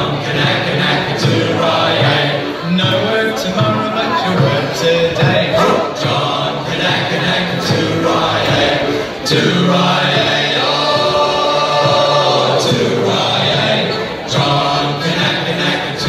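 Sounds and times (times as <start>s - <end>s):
men's choir singing a sea shanty: 0.0s - 16.0s.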